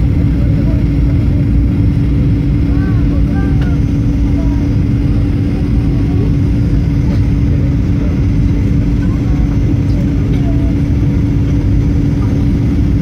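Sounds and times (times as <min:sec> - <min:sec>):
airplane cabin rumble: 0:00.0 - 0:13.0
jet engines running: 0:00.0 - 0:13.0
low hum: 0:00.0 - 0:13.0.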